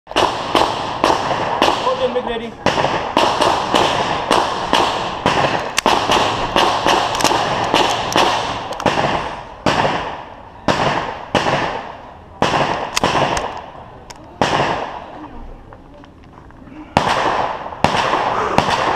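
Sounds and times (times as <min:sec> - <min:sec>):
pistol shots with ringing echo: 0:00.1 - 0:13.8, 0:14.4 - 0:15.1, 0:16.9 - 0:18.9.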